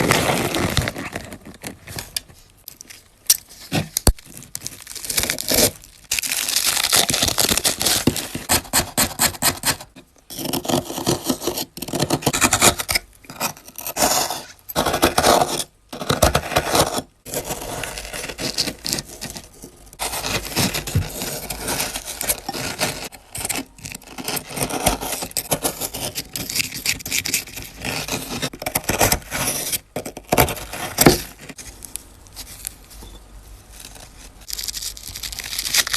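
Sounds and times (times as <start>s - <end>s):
scraping tearing and rustling: 0.0s - 12.8s, 13.4s - 35.9s.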